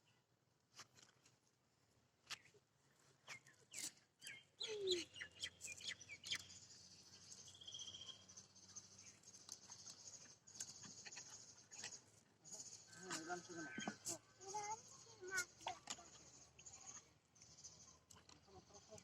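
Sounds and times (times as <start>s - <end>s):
small birds chirping: 2.2s - 19.0s.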